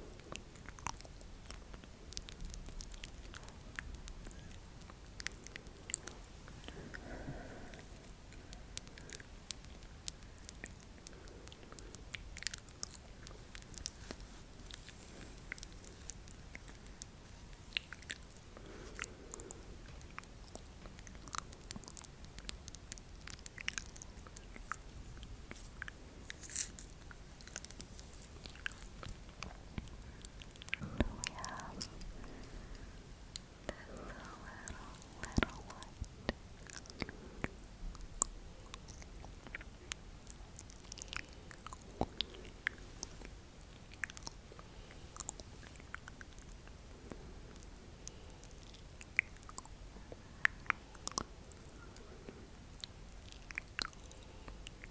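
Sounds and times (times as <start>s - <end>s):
wet mouth clicks and smacks: 0.2s - 44.4s, 45.2s - 49.8s, 52.8s - 54.9s.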